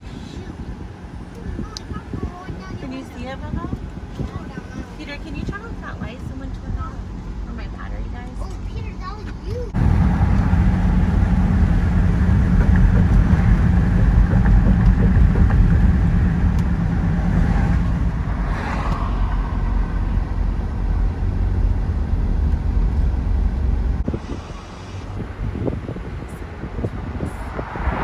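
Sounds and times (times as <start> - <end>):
vehicle engine low rumble: 0.0 - 28.0.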